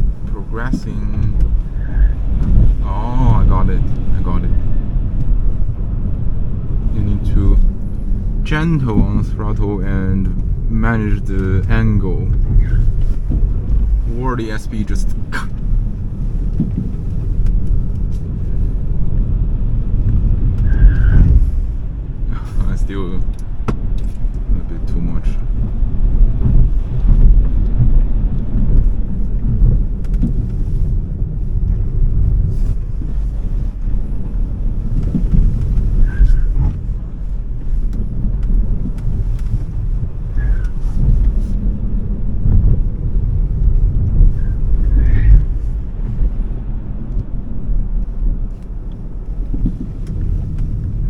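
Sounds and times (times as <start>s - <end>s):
road and tyre rumble: 0.0s - 51.0s.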